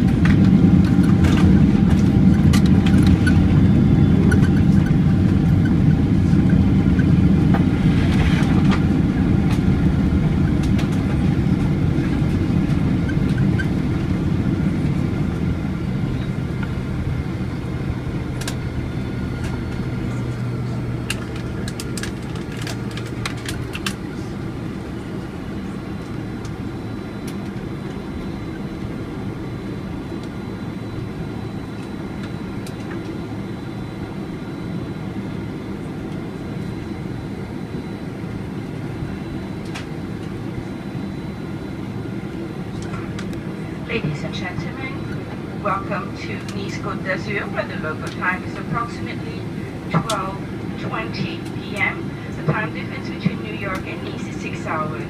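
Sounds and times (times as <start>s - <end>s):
jet engine rumble: 0.0s - 55.0s.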